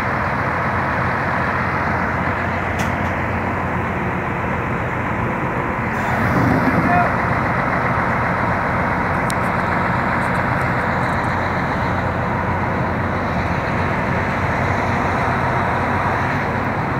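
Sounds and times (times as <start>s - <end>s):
locomotive engine running: 0.0s - 16.9s.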